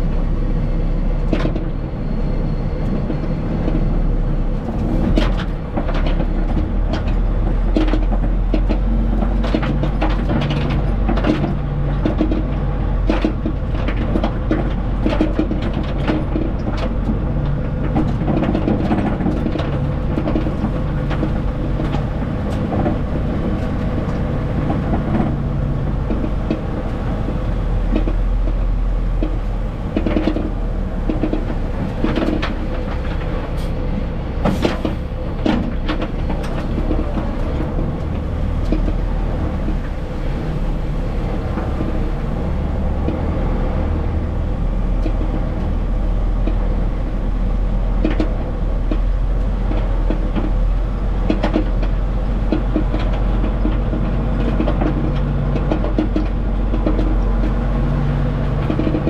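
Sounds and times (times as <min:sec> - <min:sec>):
cab and trailer rattling: 0:00.0 - 0:59.0
truck engine low drone: 0:00.0 - 0:59.0.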